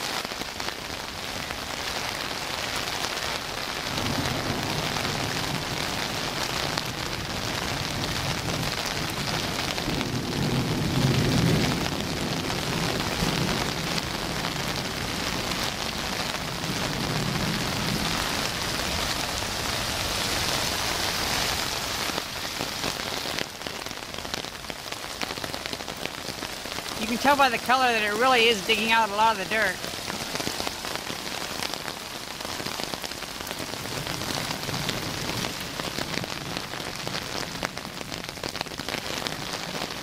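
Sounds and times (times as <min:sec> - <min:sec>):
heavy rain on pavement: 0:00.0 - 0:40.0.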